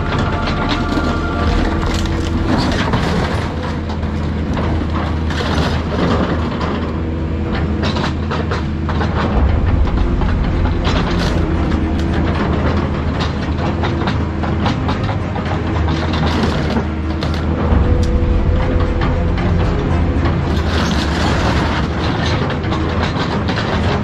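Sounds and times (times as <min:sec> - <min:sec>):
excavator diesel engine running: 0:00.0 - 0:24.0
scrap metal clanking and scraping: 0:00.0 - 0:24.0.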